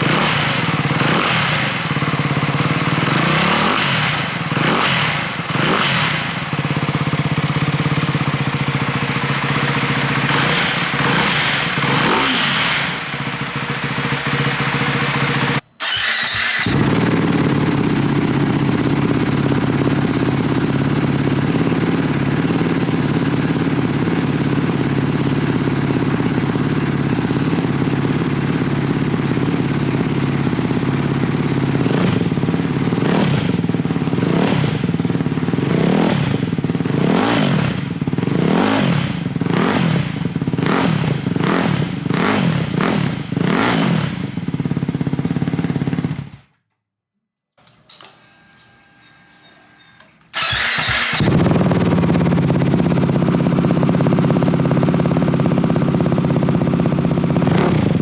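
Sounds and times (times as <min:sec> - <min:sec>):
engine revving: 0:00.0 - 0:07.4, 0:08.2 - 0:46.2, 0:50.4 - 0:58.0
motorcycle engine idling: 0:00.0 - 0:46.5, 0:50.4 - 0:58.0.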